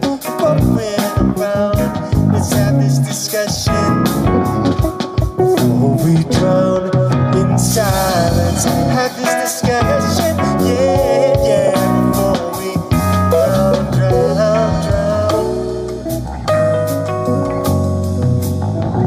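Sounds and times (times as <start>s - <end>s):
drum kit: 0.0s - 19.0s
electric guitar with bending notes: 0.0s - 19.0s.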